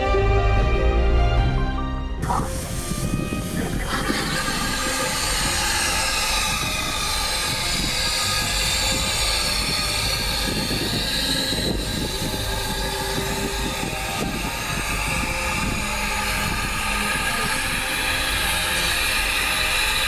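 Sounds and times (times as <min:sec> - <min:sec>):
faint high-pitched drifting tones: 0:02.2 - 0:20.0
train rail rumble: 0:02.2 - 0:20.0.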